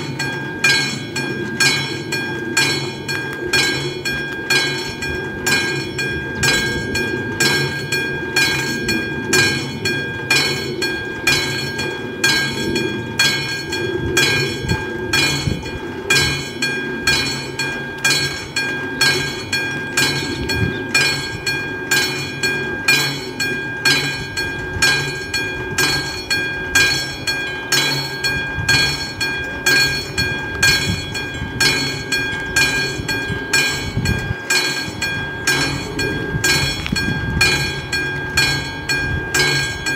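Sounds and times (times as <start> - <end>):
electronic level crossing bell: 0.0 - 39.9
low uneven rumble: 0.0 - 39.9.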